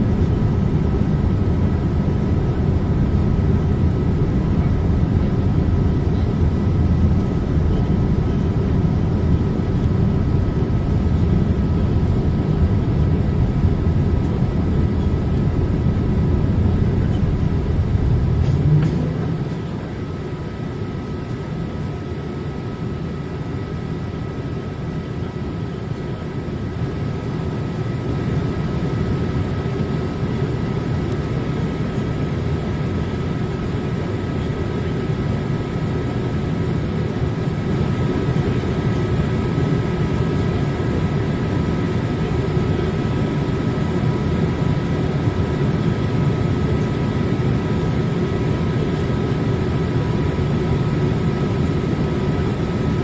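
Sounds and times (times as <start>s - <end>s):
aircraft cabin engine noise: 0.0s - 53.0s.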